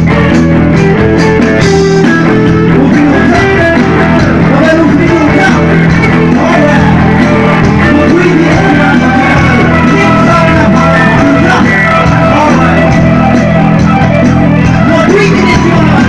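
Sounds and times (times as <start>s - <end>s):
bass guitar: 0.0s - 16.0s
drums: 0.0s - 16.0s
electric guitar: 0.0s - 16.0s.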